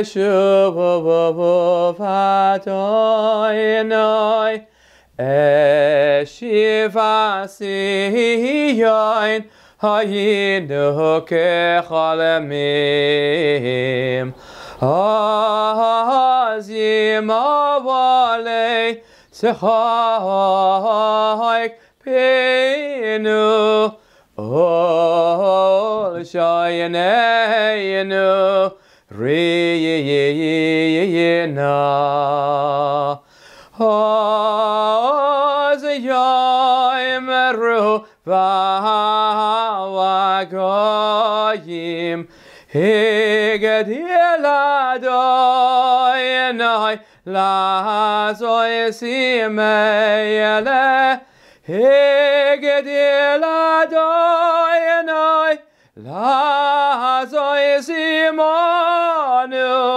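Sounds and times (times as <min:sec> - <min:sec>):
man singing unaccompanied: 0:00.0 - 0:59.9.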